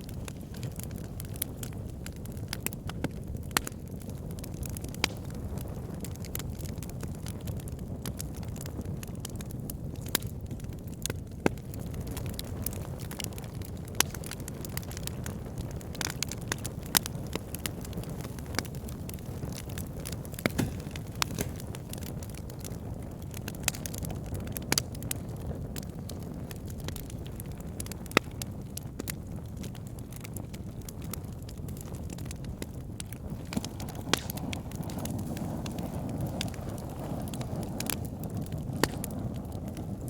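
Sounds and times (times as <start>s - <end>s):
wood fire crackling in fireplace: 0.0s - 40.0s.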